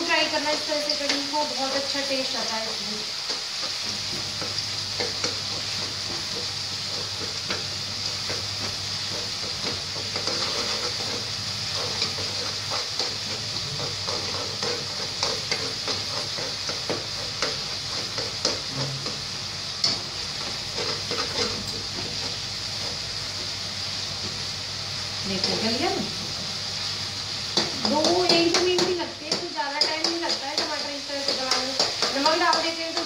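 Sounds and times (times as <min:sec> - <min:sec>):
tomatoes sizzling in hot oil: 0:00.0 - 0:33.0.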